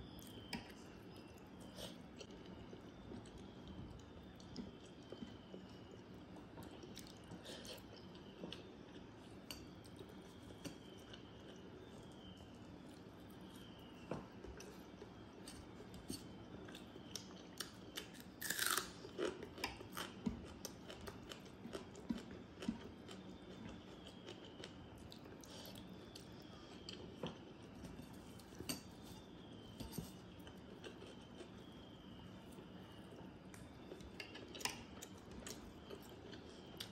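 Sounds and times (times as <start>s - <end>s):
chewing and crunching: 0.1s - 36.9s.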